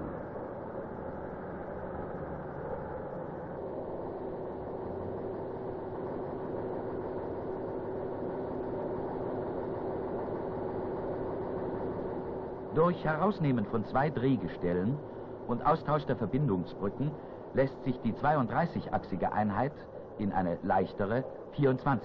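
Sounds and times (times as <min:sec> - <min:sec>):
heavy tractor engine droning: 0:00.0 - 0:22.0.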